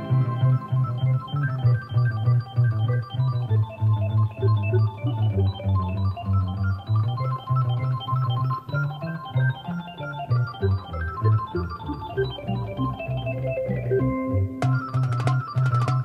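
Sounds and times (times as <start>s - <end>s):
organ-like keyboard music: 0.0s - 16.0s.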